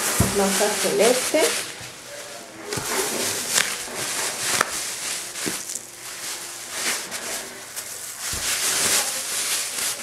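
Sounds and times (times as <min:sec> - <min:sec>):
plastic film crinkling: 0:00.0 - 0:10.0.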